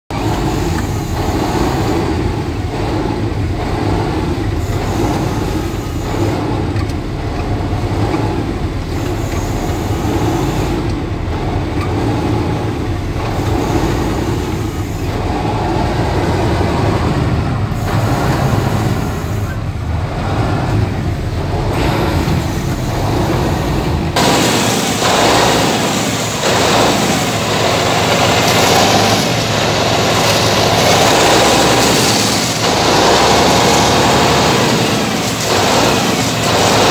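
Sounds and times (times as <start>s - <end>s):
diesel engine and pump running: 0.0s - 36.9s.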